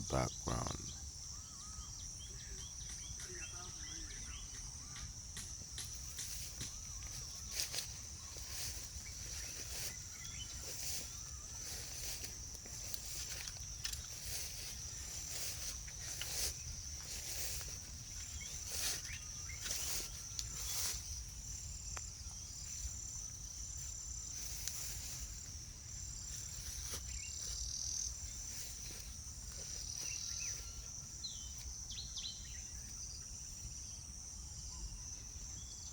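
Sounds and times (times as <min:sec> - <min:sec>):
insects trilling: 0:00.0 - 0:35.9.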